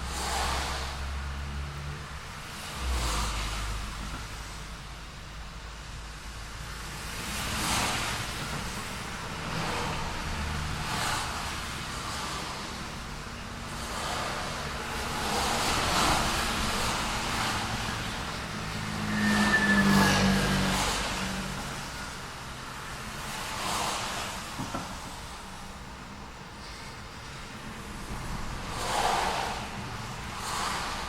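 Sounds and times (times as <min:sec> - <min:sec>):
cars passing: 0:00.0 - 0:31.0
tyres hissing on road: 0:00.0 - 0:31.0.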